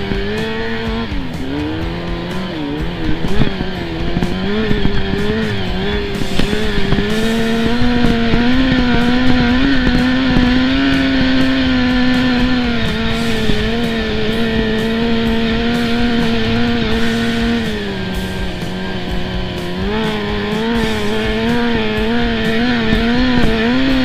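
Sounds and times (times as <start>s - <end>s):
atv engine under throttle: 0.0s - 24.0s.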